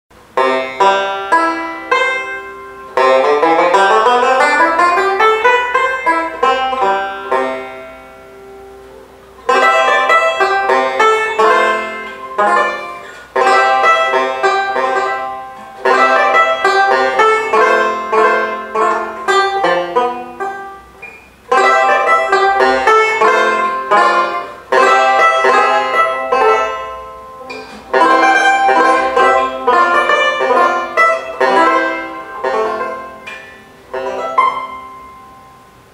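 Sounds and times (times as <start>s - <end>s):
banjo picked notes and chords: 0.1s - 35.9s.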